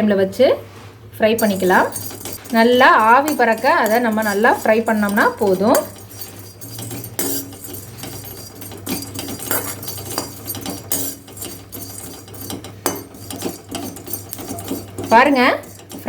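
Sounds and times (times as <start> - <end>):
spatula scraping a pan: 1.4 - 16.0
spices rattling: 1.4 - 16.0.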